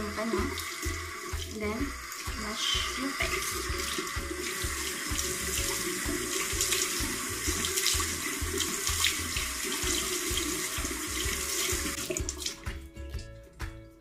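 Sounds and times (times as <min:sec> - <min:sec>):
tap water splashing into sink: 0:00.2 - 0:13.4.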